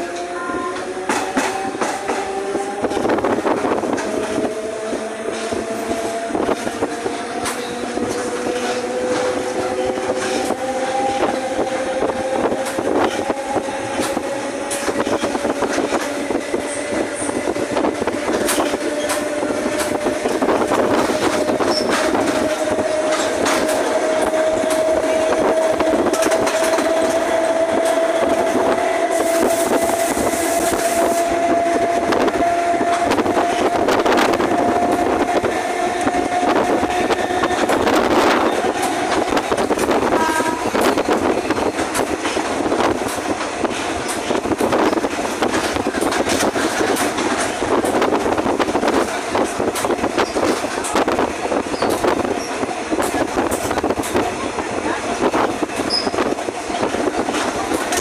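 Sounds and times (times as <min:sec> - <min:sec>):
wheels clattering on rails: 0:00.0 - 0:58.0
train motor whine: 0:00.1 - 0:54.2.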